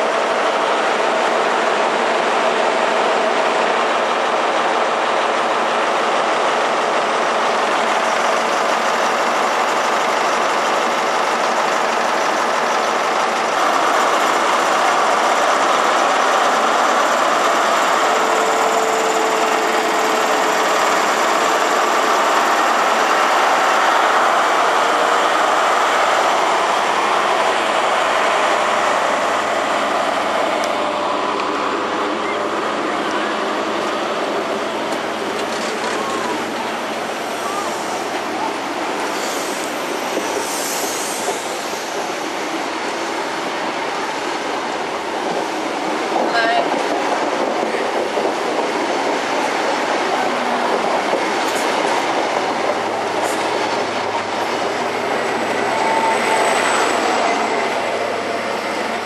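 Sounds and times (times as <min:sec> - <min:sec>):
diesel train engine running: 0:00.0 - 0:59.0.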